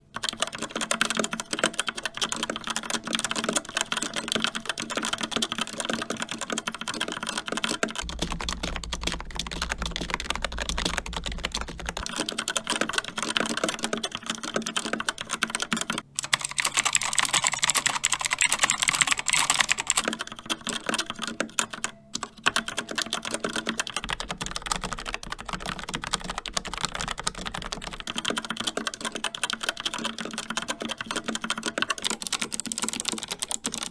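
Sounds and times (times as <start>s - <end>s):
typing on mechanical keyboard: 0.1s - 33.9s
clicky keyboard typing: 0.2s - 33.9s
tactile keyboard typing: 0.2s - 33.9s
typing on membrane keyboard: 0.2s - 33.9s.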